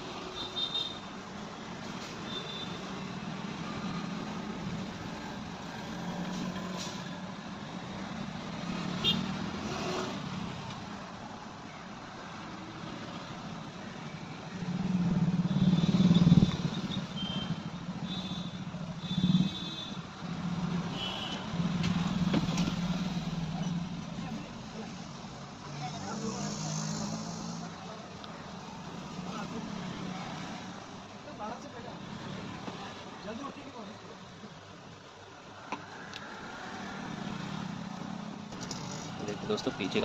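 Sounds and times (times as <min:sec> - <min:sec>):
vehicles passing: 0:00.0 - 0:40.0.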